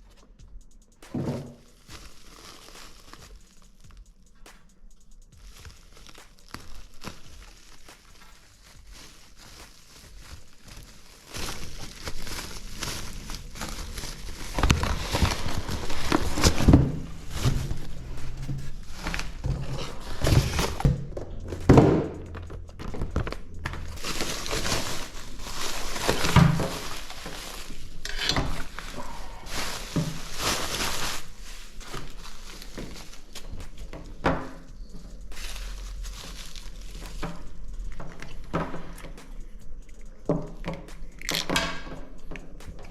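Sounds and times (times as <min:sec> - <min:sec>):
plastic packaging crinkling: 0:01.1 - 0:42.9.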